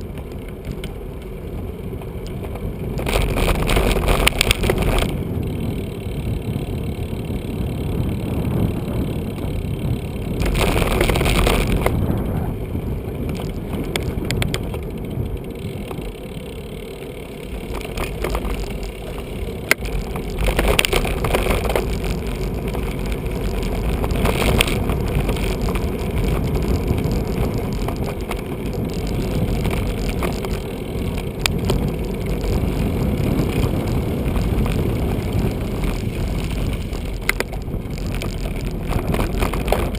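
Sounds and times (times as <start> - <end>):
wind rushing over microphone: 0.0 - 16.4, 17.4 - 39.9
tyre rumble on road: 0.0 - 39.9.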